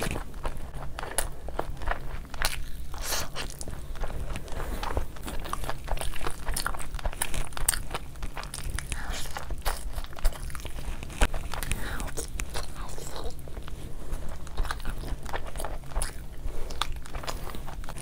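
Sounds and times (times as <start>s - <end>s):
chewing and wet mouth sounds: 0.0s - 18.0s
fingers squishing rice: 0.0s - 18.0s.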